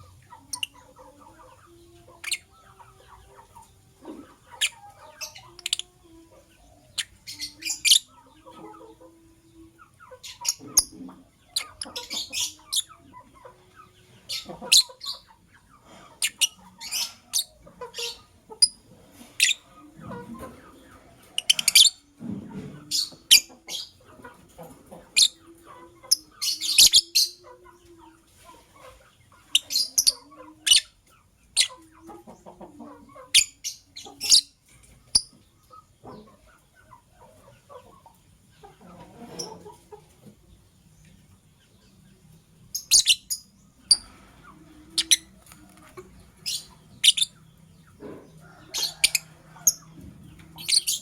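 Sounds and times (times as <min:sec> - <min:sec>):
lovebirds chirping: 0:00.0 - 0:51.0.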